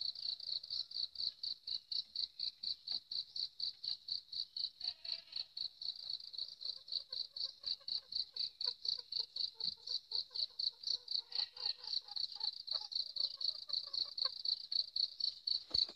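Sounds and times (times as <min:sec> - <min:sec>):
insect chirping: 0:00.0 - 0:15.9.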